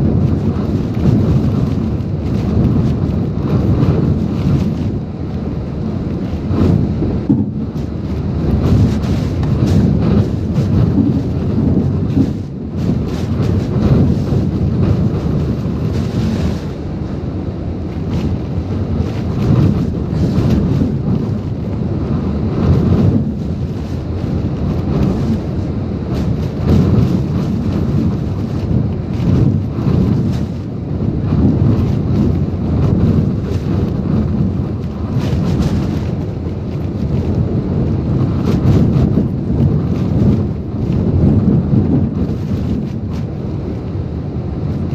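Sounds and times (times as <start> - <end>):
rain pounding: 0.0 - 44.9
strong wind gusting: 0.0 - 44.9
wind buffeting microphone: 0.0 - 44.9.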